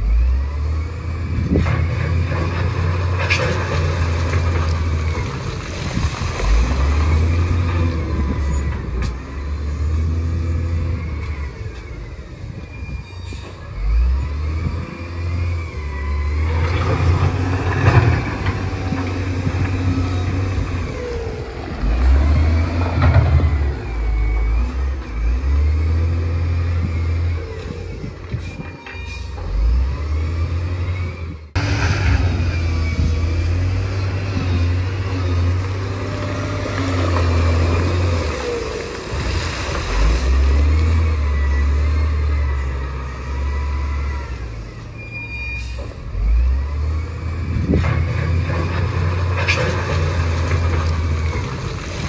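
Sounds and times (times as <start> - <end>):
bulldozer diesel engine droning: 0.0 - 52.0.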